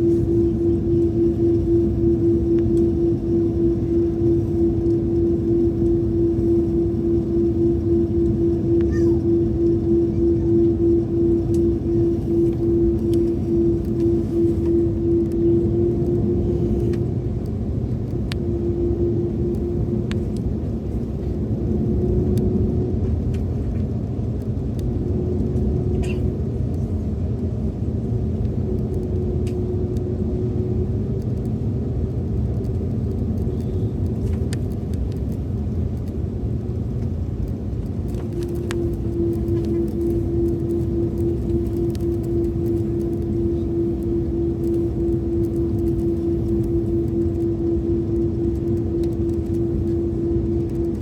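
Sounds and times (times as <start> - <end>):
jet cabin low rumble: 0.0 - 51.0
pulsing hum: 0.0 - 51.0.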